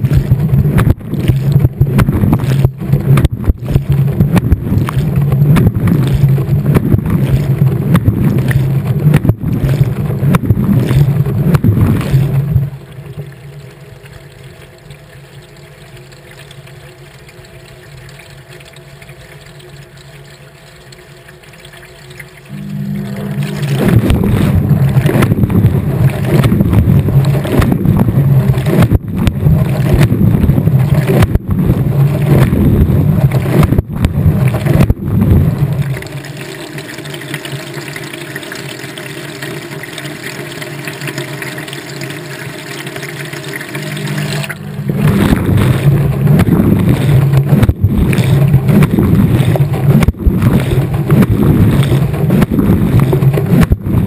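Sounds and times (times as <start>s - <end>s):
washing machine hum: 0.0s - 54.0s
water and laundry sloshing: 0.0s - 54.0s.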